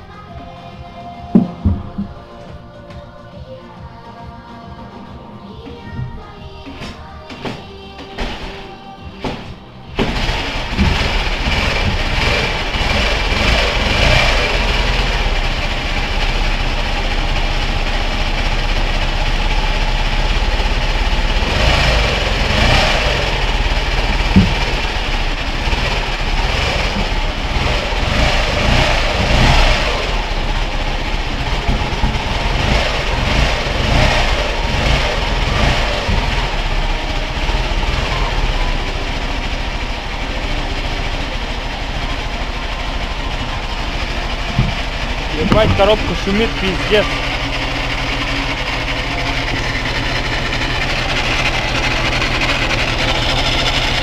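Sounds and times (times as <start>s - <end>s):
motorcycle engine running: 0.0s - 3.9s, 5.8s - 54.0s
noisy gearbox: 5.9s - 54.0s.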